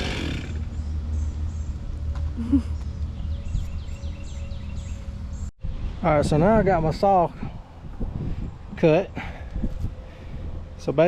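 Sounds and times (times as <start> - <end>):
steady low rumble: 0.5 - 11.0.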